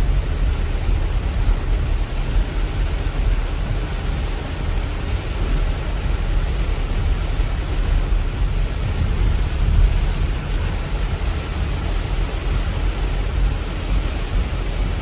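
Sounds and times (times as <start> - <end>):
rushing floodwater rumble: 0.0 - 15.0.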